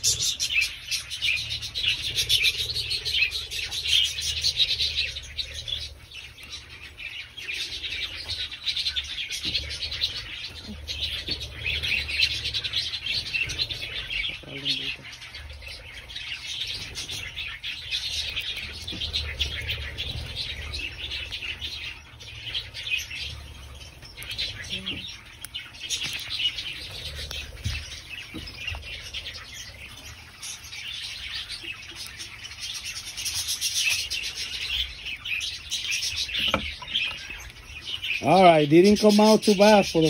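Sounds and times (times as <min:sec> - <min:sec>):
budgerigars chirping: 0:00.0 - 0:40.0.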